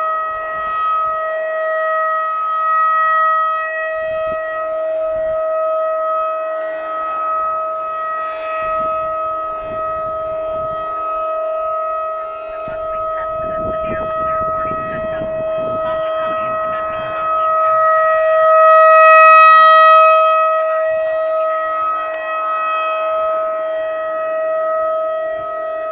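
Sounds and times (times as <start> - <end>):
rotating siren steady tone: 0.0 - 25.9.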